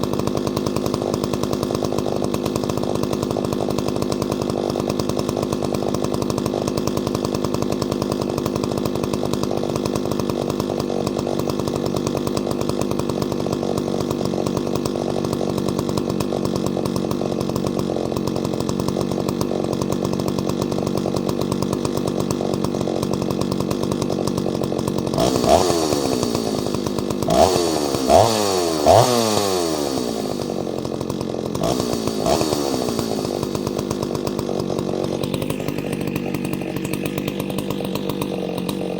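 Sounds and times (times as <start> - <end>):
chainsaw idling: 0.0 - 38.9
chainsaw throttle blips: 0.0 - 38.9.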